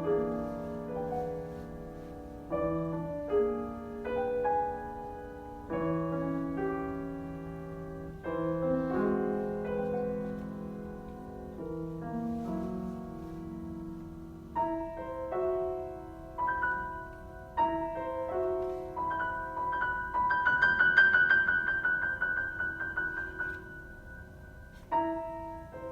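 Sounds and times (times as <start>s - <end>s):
solo piano melody: 0.0s - 25.9s.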